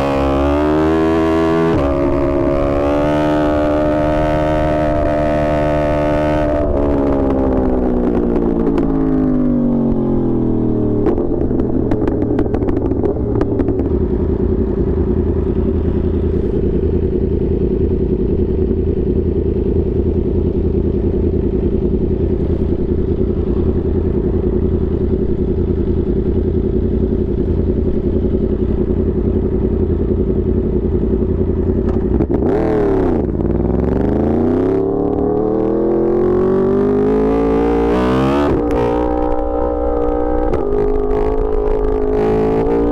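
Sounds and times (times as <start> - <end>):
engine crackles: 0.0 - 42.9
motorcycle engine revving: 0.0 - 42.9.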